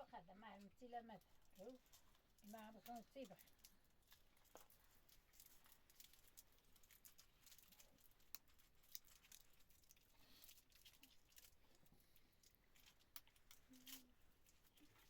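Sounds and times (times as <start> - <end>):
rustling: 0.4 - 15.0.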